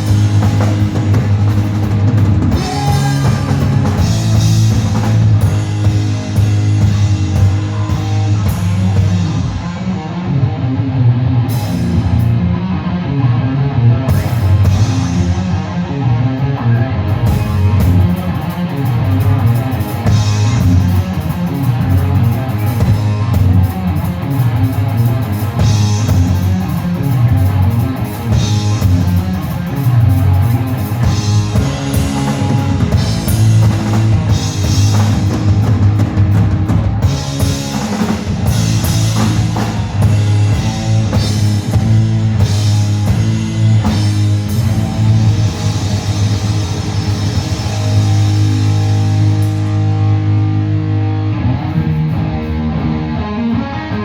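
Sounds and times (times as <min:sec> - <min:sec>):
distorted electric guitar: 0:00.0 - 0:54.0
heavy metal band playing: 0:00.0 - 0:54.0.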